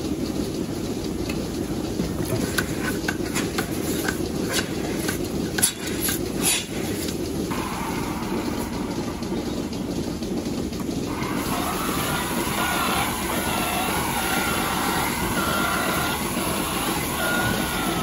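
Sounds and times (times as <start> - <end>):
milking machine running: 0.0 - 18.0
steady higher mechanical noise: 0.0 - 18.0.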